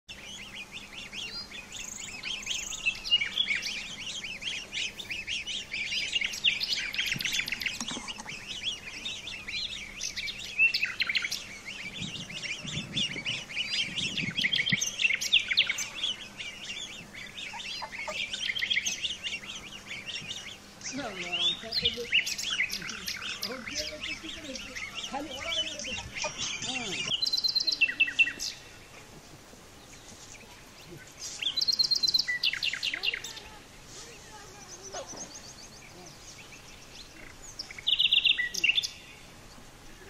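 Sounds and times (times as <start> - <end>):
goslings peeping: 0.1 - 40.0.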